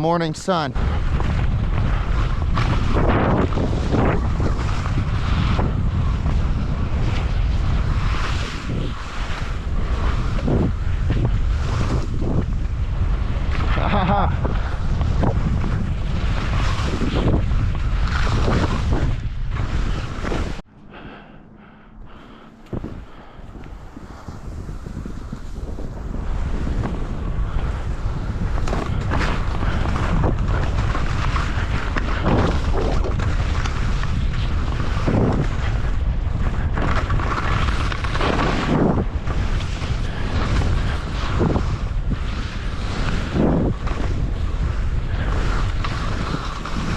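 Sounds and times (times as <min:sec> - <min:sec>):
skis swishing through snow: 0:00.0 - 0:20.6, 0:22.3 - 0:46.9
wind on microphone: 0:00.0 - 0:21.2, 0:22.0 - 0:46.9.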